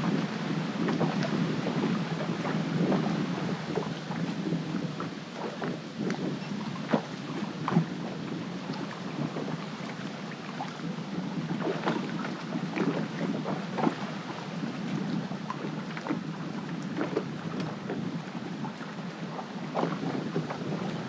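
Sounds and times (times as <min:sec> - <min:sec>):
water lapping against boat hull: 0:00.0 - 0:21.0
wind: 0:00.0 - 0:21.0.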